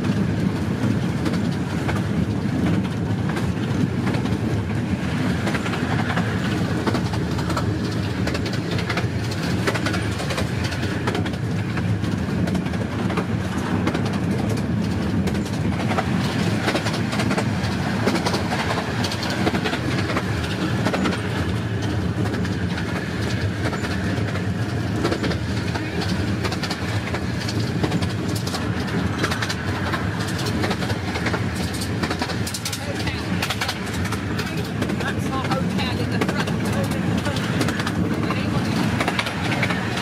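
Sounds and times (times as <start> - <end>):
miniature train rumbling: 0.0 - 40.0
wheels clicking on rails: 0.0 - 40.0.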